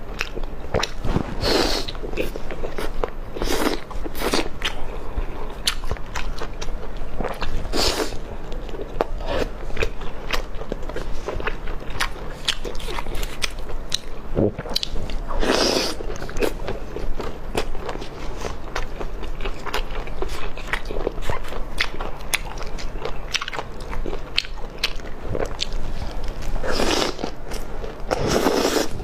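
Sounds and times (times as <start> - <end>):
person chewing crunchy food: 0.0 - 29.0.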